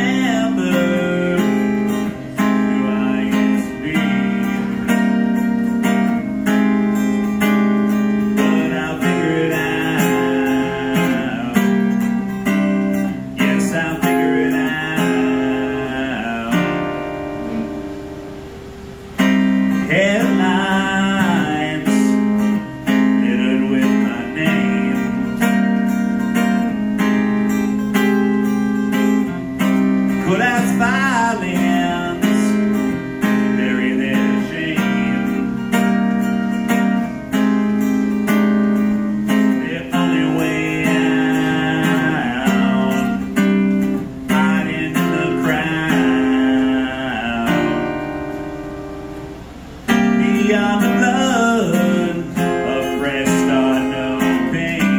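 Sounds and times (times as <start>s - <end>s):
man singing: 0.0s - 6.6s, 7.9s - 17.8s, 19.7s - 26.8s, 29.3s - 36.2s, 39.2s - 48.3s, 49.9s - 54.9s
acoustic guitar strumming chords: 0.0s - 54.9s.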